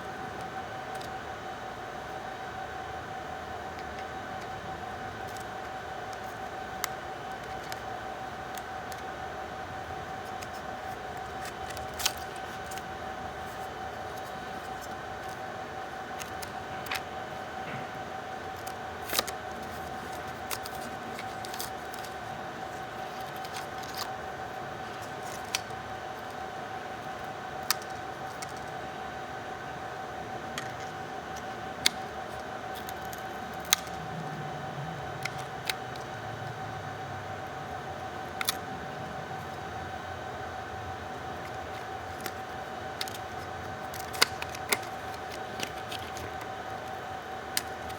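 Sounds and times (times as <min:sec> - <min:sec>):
high-pitched electrical whine: 0:00.0 - 0:47.9
steady high-pitched hum: 0:00.0 - 0:47.9.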